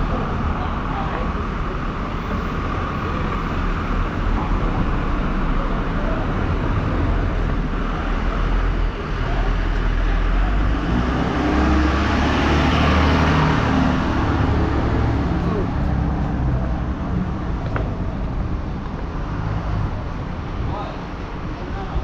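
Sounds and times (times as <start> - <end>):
truck engine approaching: 0.0 - 21.7
street traffic: 0.0 - 22.0.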